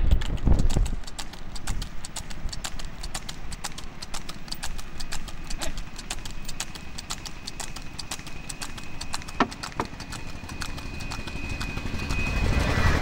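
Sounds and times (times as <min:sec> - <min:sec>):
cart rolling rumble: 0:00.0 - 0:13.0
hooves clip-clopping on asphalt: 0:00.0 - 0:13.0.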